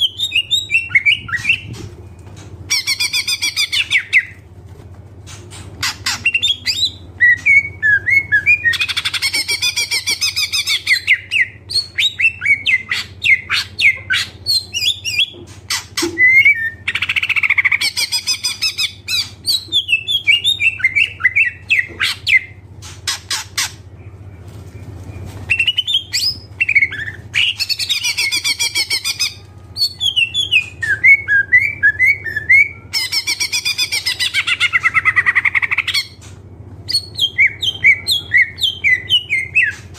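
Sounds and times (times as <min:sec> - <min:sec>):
bird singing with chattering phrases: 0:00.0 - 0:01.8, 0:02.7 - 0:04.4, 0:05.5 - 0:39.9
low steady hum: 0:00.0 - 0:39.9.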